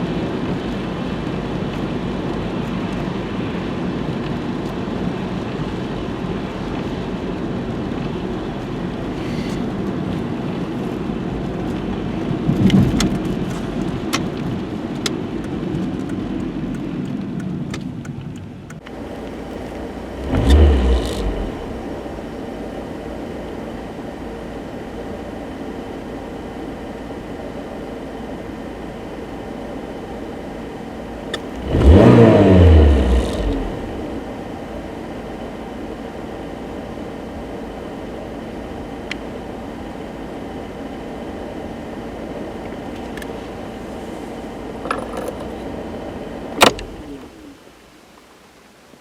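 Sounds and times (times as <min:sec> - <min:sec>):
car engine rumble: 0:00.0 - 0:49.0
road noise: 0:00.0 - 0:49.0.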